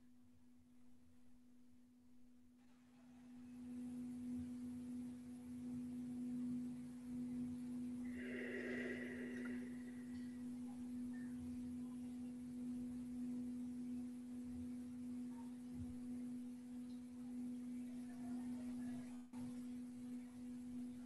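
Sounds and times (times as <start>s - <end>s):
steady pure low tone: 0.0s - 21.0s.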